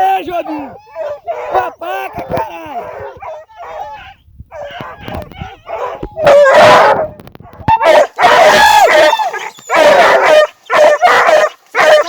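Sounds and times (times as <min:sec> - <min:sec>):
hunting dogs baying: 0:00.0 - 0:12.0.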